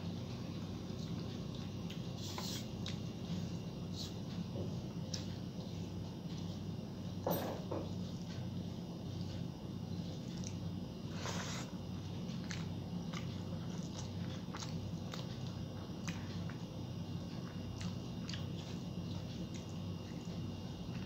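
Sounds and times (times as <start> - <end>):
person chewing food: 0.4 - 6.8, 7.9 - 21.0.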